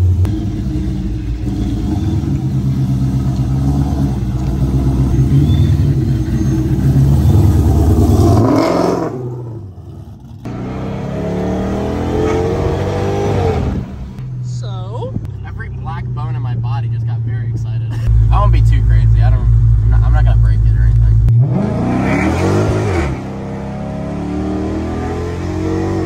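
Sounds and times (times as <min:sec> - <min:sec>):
car engine revving: 0:00.0 - 0:14.7, 0:18.0 - 0:26.0.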